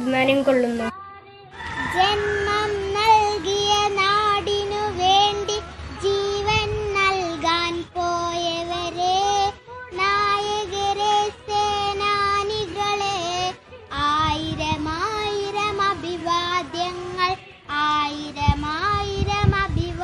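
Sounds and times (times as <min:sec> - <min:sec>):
girl singing: 0:00.0 - 0:20.0.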